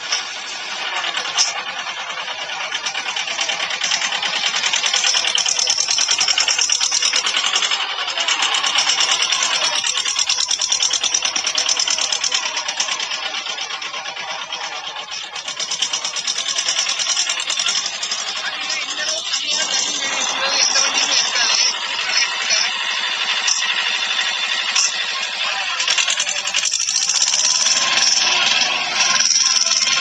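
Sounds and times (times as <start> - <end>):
tractor diesel engine clattering: 0.0 - 30.0.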